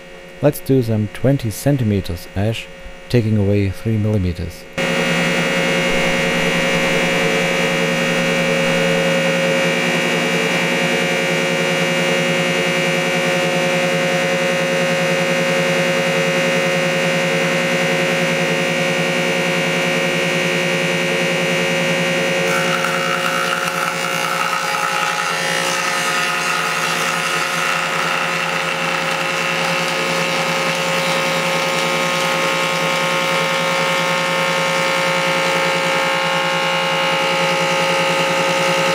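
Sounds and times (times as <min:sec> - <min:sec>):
jointer cutter head whine: 0:04.8 - 0:38.9.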